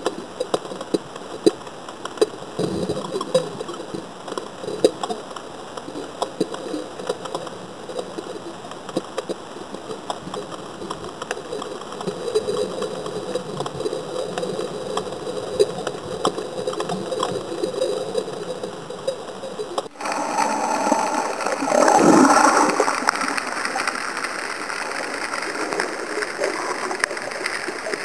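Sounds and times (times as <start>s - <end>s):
underwater clicks and crackles: 0.0s - 28.0s.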